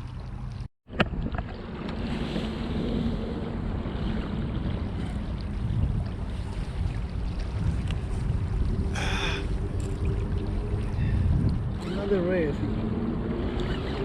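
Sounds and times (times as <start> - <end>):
water lapping: 0.0 - 14.0
wind buffeting microphone: 1.0 - 14.0.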